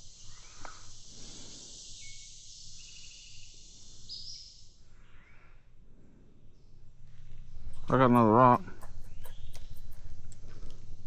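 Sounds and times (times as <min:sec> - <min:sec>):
short high insect calls: 0:00.0 - 0:05.6, 0:07.6 - 0:11.0
insect chorus drone: 0:00.0 - 0:11.0.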